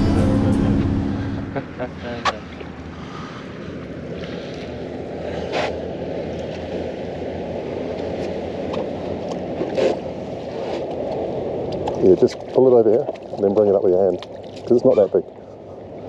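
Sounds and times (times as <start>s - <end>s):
wind and water rushing: 0.0s - 16.0s.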